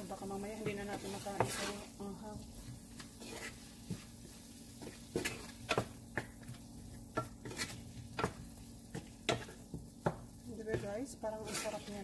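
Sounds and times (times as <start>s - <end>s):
food sizzling in a pan: 0.0s - 12.0s
wooden spatula scraping a pan: 0.0s - 12.0s.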